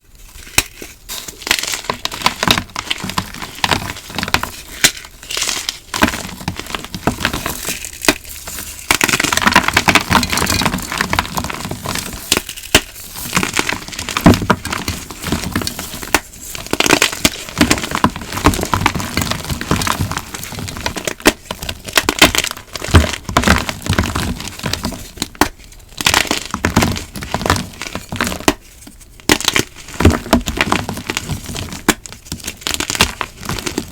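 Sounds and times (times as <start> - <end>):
chalk crushed by hand: 0.4 - 33.9.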